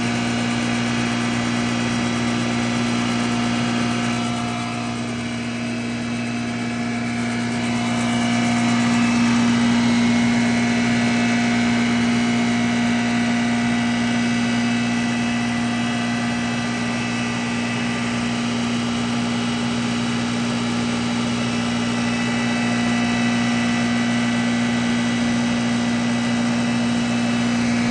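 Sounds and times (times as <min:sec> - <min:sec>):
grinding machine humming: 0:00.0 - 0:27.9.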